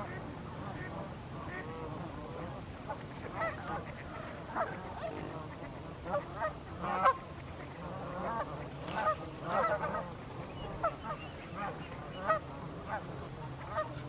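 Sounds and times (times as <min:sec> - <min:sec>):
waterfowl honking: 0:00.0 - 0:14.0.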